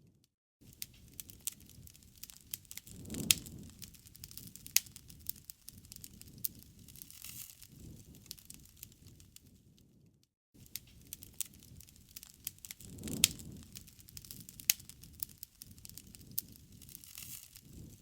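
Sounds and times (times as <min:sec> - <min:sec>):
campfire crackling and popping: 0:00.7 - 0:09.8, 0:10.6 - 0:18.0.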